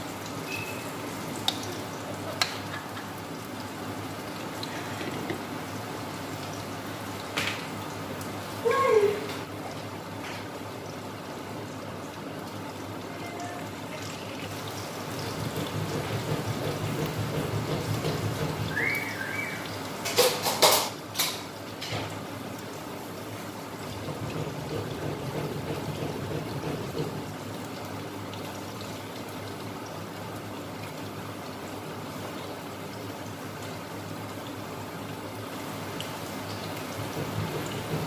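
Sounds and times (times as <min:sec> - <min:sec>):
vegetables bubbling in a wok: 0:00.0 - 0:38.0.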